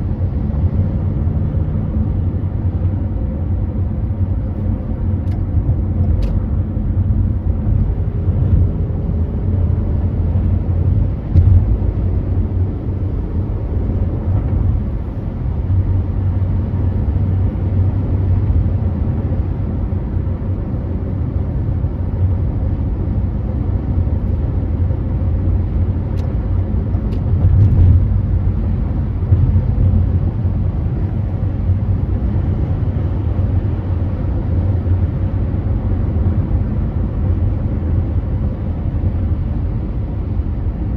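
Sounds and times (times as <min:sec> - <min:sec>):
car driving road noise: 0:00.0 - 0:40.9.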